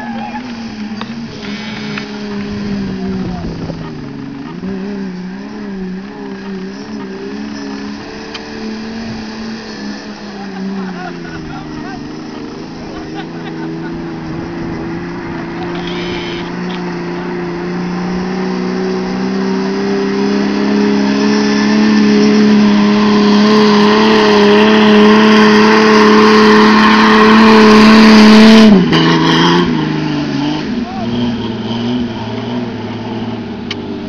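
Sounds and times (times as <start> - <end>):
engine revving under load: 0.0 - 34.0.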